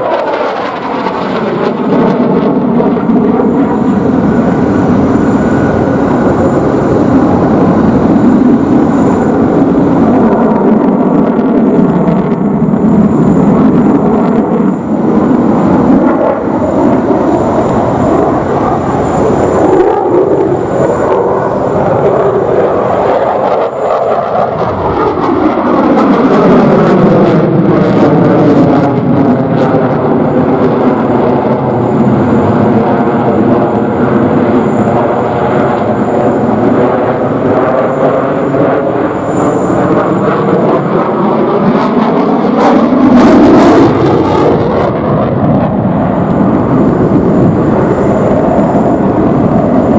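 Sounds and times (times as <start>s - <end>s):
jet engine roar: 0.0s - 49.9s.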